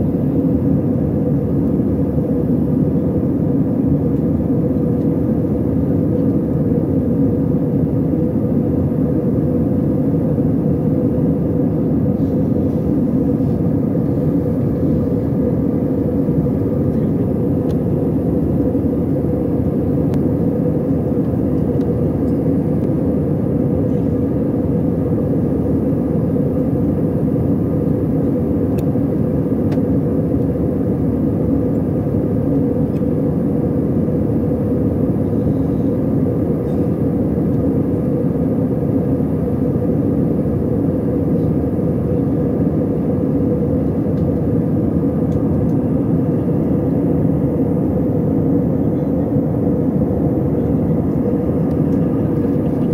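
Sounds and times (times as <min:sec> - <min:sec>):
airliner cabin rumble and hum: 0:00.0 - 0:52.9.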